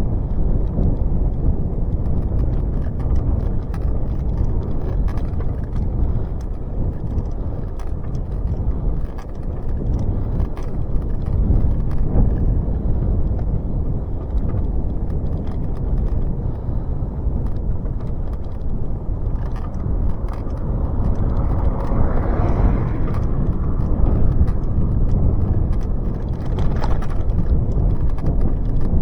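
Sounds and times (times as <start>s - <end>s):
bicycle tyre rumble: 0.0s - 29.0s
faint irregular clicks: 0.0s - 29.0s
wind buffeting microphone: 0.0s - 29.0s.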